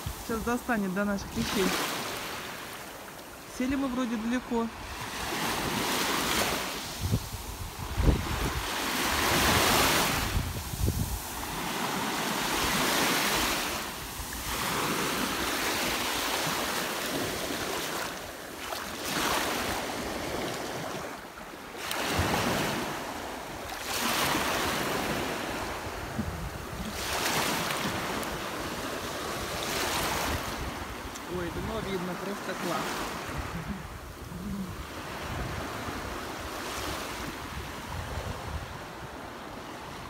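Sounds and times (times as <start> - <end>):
small waves washing on sand: 0.0 - 40.0.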